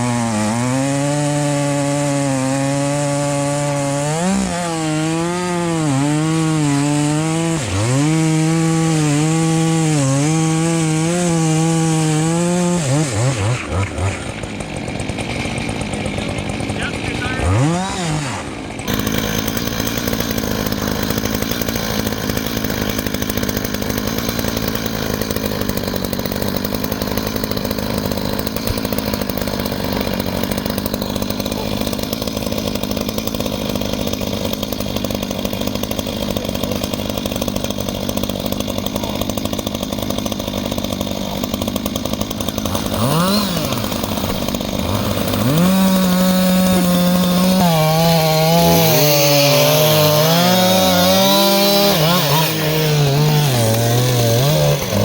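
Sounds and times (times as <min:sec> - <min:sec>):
reciprocating saw cutting wood: 0:00.0 - 0:55.0.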